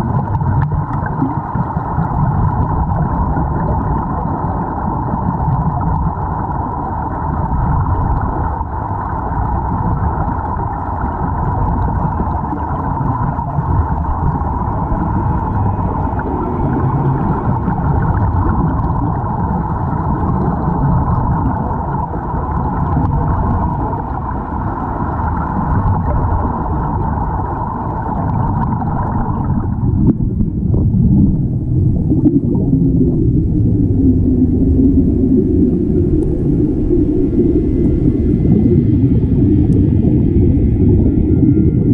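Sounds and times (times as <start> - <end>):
underwater rumble and hiss: 0.0 - 41.9.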